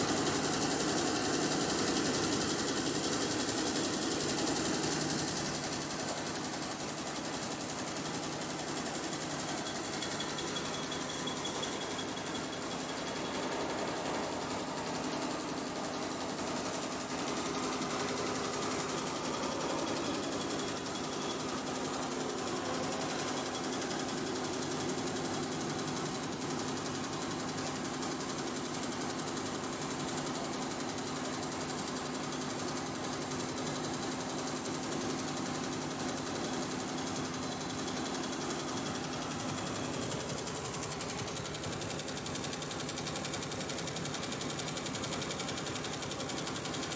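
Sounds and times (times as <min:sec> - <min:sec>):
embroidery machine rattling: 0:00.0 - 0:28.2, 0:35.2 - 0:46.9.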